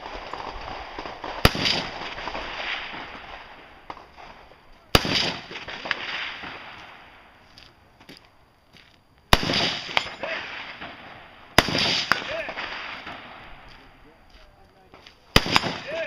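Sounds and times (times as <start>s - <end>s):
rifle shots with rolling echo: 0.0s - 7.9s, 9.3s - 16.0s.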